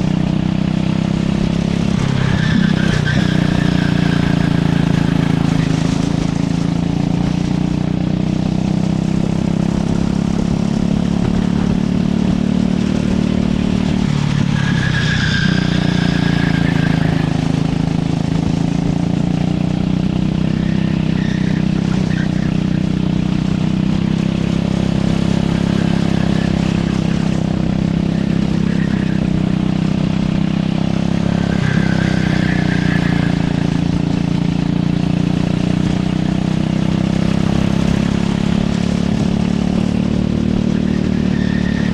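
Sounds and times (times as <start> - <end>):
kart engine running hard: 0.0 - 41.9.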